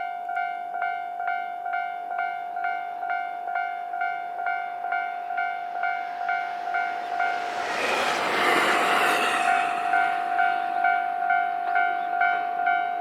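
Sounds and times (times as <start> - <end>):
railcar rushing past: 2.2 - 13.0.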